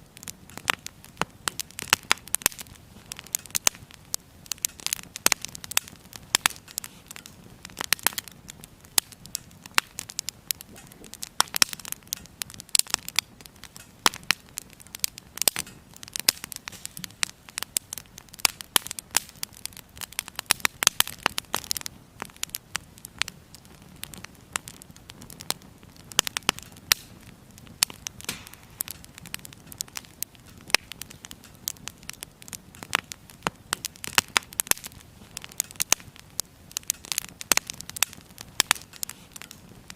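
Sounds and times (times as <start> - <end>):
faint low hiss: 0.0 - 39.9
firewood crackling and popping: 0.0 - 39.9.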